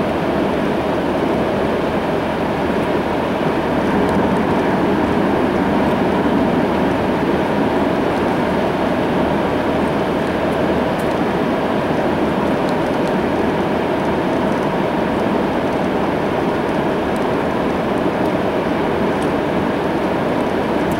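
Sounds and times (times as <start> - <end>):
road and tyre noise: 0.1 - 20.9.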